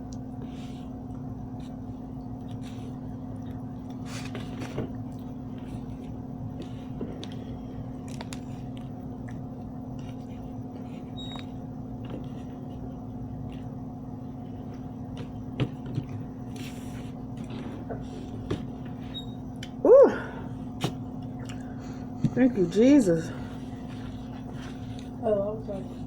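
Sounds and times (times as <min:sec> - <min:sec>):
chewing and eating: 0:00.0 - 0:18.0, 0:20.7 - 0:22.1, 0:23.6 - 0:25.2.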